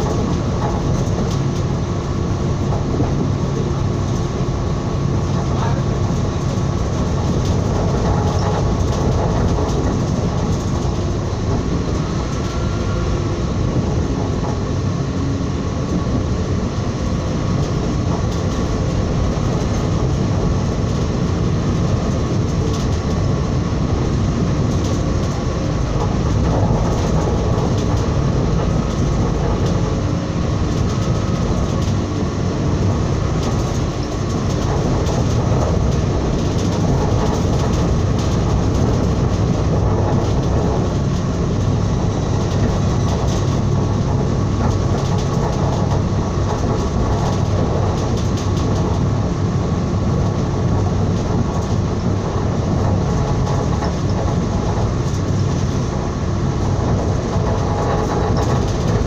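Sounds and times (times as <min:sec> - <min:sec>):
track clatter: 0:00.0 - 0:59.0
train wheels rumbling on rails: 0:00.0 - 0:59.0.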